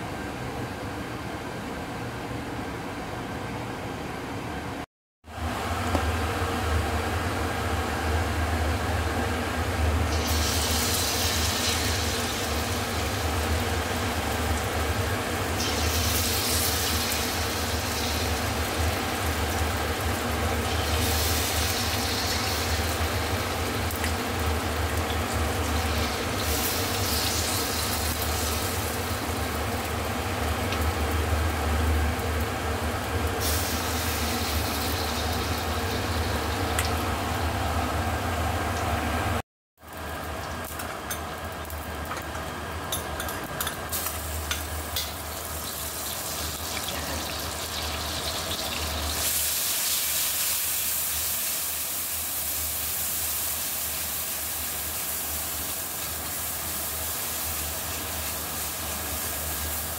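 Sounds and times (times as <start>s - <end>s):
batter sizzling in hot oil: 9.3s - 37.7s, 39.8s - 59.9s.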